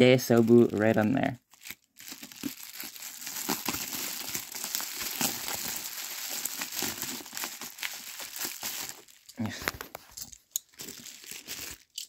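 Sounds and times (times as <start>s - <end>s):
bubble wrap crinkling and crackling: 0.0s - 12.0s.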